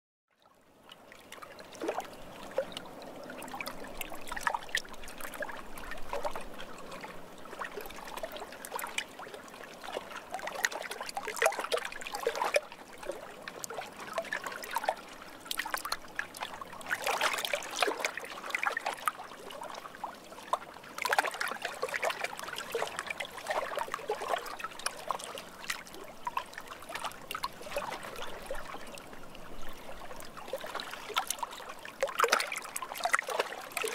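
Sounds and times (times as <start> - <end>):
water trickling and splashing: 0.3 - 33.9.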